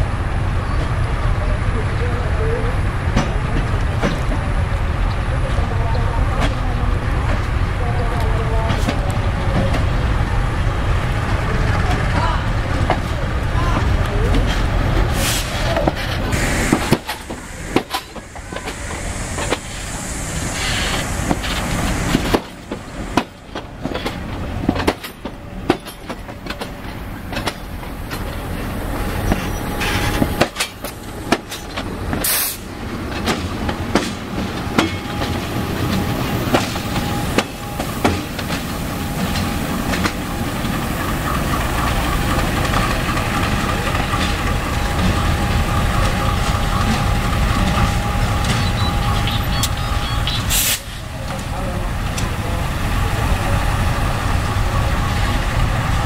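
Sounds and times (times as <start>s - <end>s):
train coaches rolling past: 0.0s - 56.0s.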